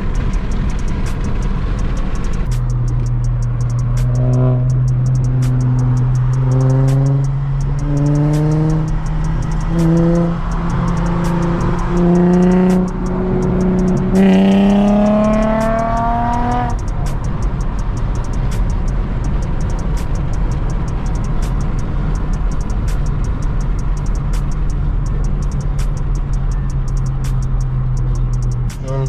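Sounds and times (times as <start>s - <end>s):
car running noise: 0.0s - 29.0s
music with hi-hat and bass: 0.0s - 29.0s.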